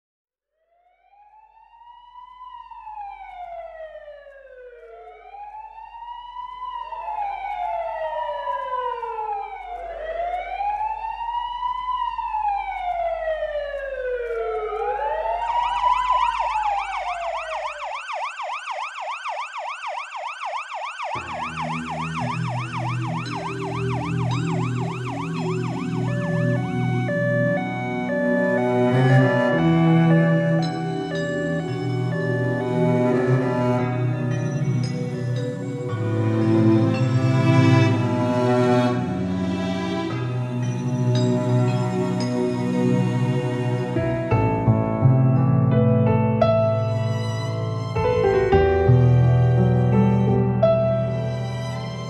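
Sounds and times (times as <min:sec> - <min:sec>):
emergency sirens wailing: 0:00.9 - 0:44.0
slow keyboard music: 0:02.7 - 0:19.1, 0:20.9 - 0:52.0.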